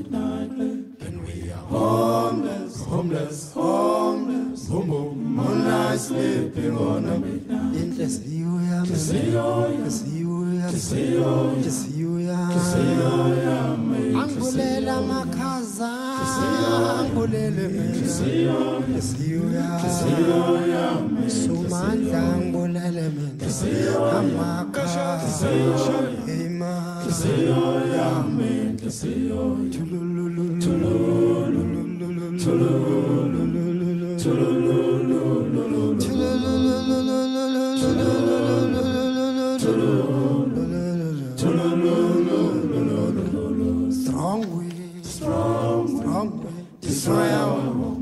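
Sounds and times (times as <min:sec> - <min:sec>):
a cappella group chanting: 0:00.0 - 0:48.0.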